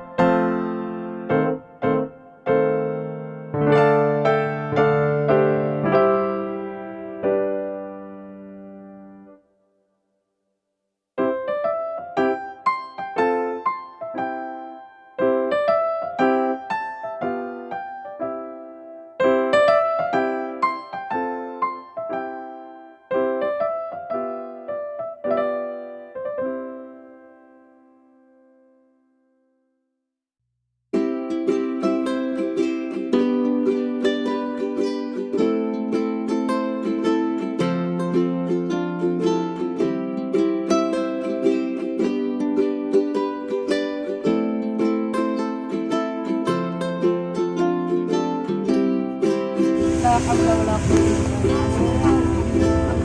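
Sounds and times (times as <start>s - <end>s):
slow piano-like keyboard music: 0.0s - 9.5s, 11.2s - 29.2s, 31.1s - 53.0s.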